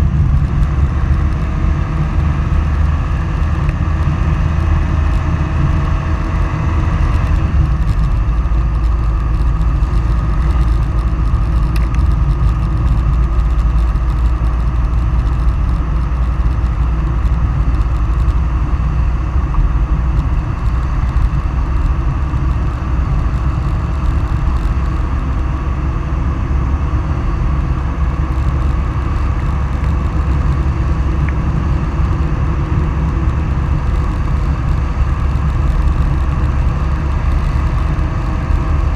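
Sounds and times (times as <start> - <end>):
road rumble of fast travel: 0.0 - 38.9.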